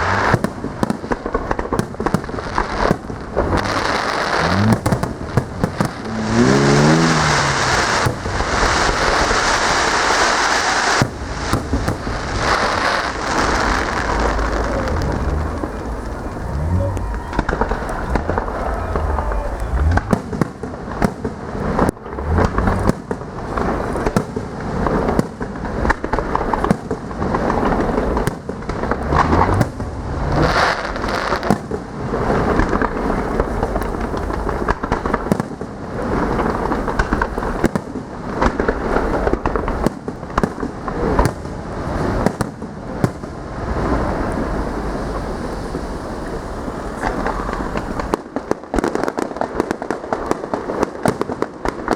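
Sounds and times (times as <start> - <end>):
deep fireworks booms: 0.0 - 51.9
fireworks bangs and crackling: 0.0 - 51.9.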